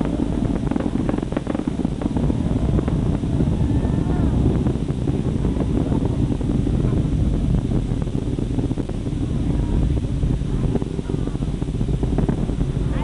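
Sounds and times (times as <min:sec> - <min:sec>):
distant rocket launch rumble: 0:00.0 - 0:13.0.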